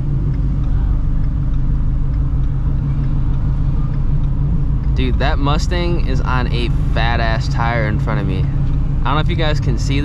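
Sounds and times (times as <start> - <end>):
car engine idling with deep rumble: 0.0 - 10.0.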